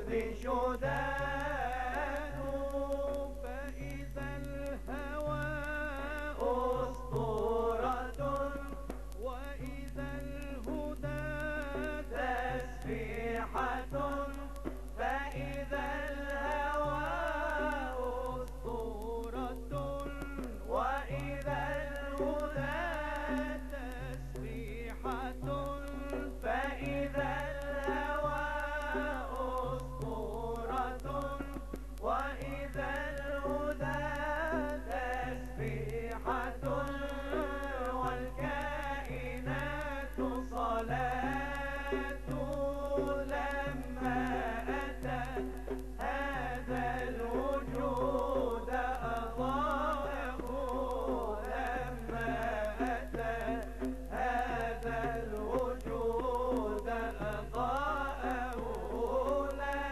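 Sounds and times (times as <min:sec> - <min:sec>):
man singing: 0:00.0 - 0:59.9.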